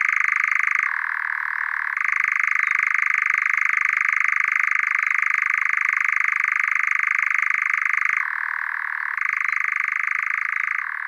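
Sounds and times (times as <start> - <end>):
nightjar churring trill: 0.0 - 11.0.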